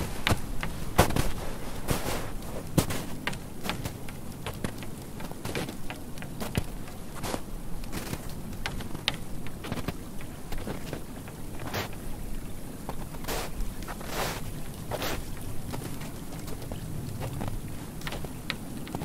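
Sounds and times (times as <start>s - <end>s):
soft hiss: 0.0s - 19.0s.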